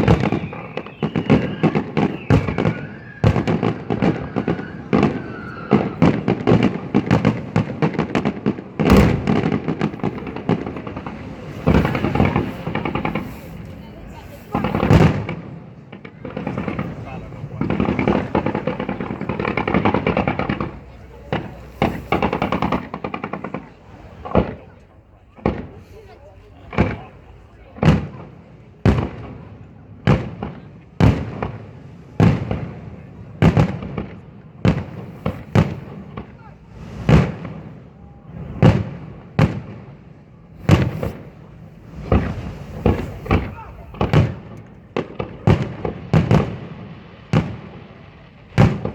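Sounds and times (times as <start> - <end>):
deep firework shell burst: 0.0 - 48.9
fireworks bangs and crackles: 0.0 - 48.9.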